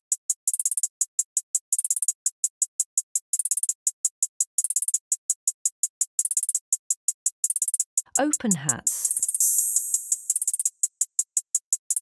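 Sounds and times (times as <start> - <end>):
programmed hi-hat ticks: 0.0 - 12.0.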